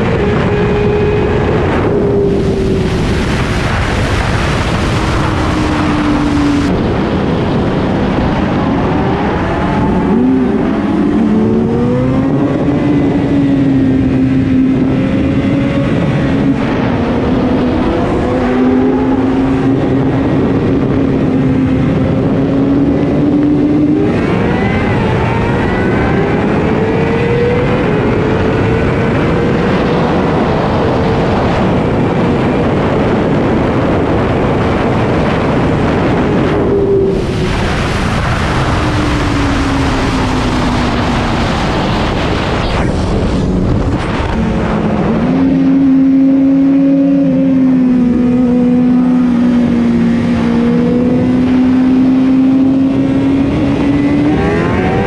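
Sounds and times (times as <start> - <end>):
motorcycle engine revving: 0.0 - 55.0
wind rushing on microphone: 0.0 - 55.0.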